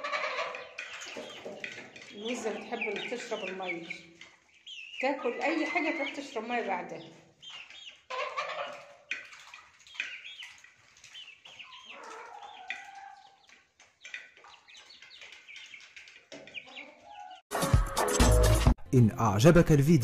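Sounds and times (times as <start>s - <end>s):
hens clucking: 0.0s - 17.4s.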